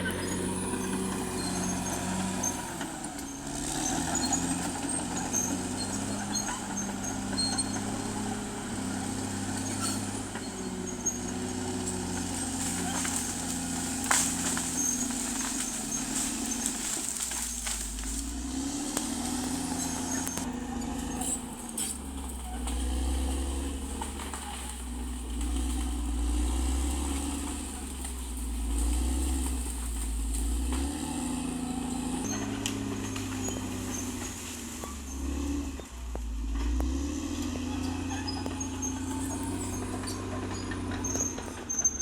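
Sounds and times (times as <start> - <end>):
bulldozer diesel engine running: 0.0 - 42.0.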